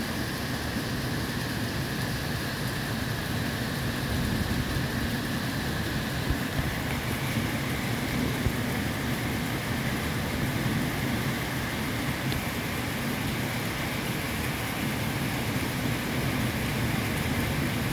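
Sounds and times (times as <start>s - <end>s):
steady rain: 0.0s - 17.9s.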